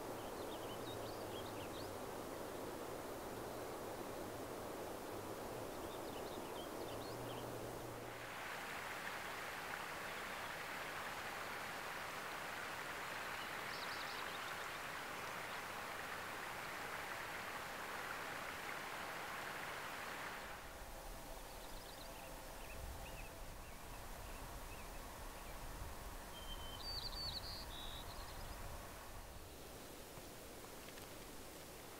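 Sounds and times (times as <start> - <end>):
steady outdoor hiss: 0.0 - 31.9.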